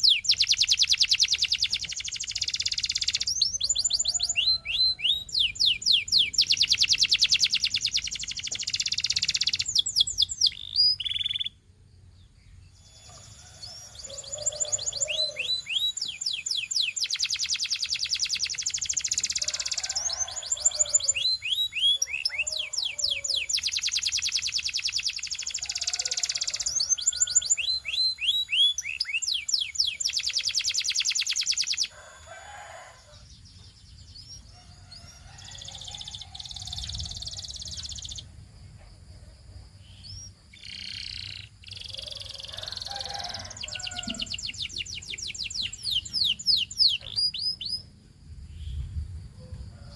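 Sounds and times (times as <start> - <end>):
canary singing: 0.0 - 11.6, 12.7 - 33.2, 34.2 - 38.3, 39.9 - 47.9.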